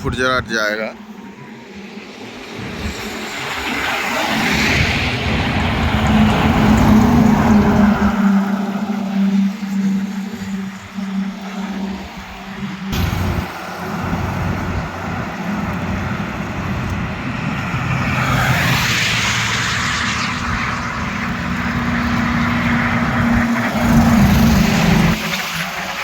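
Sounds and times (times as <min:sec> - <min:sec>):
truck engine droning: 0:01.0 - 0:26.0
vehicle passing with tyre noise: 0:01.0 - 0:26.0.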